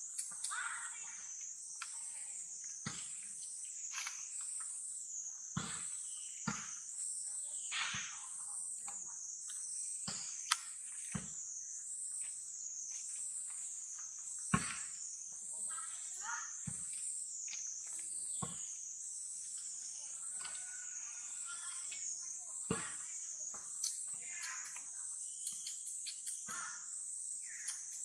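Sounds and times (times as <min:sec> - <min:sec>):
insect chorus droning: 0:00.0 - 0:28.0.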